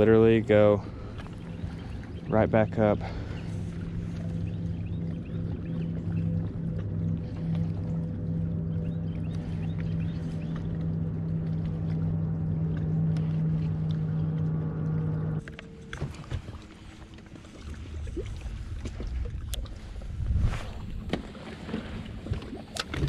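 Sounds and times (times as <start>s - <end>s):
electric trolling motor humming: 0.0s - 19.6s
faint wind: 0.0s - 23.0s
water noise: 0.0s - 23.0s.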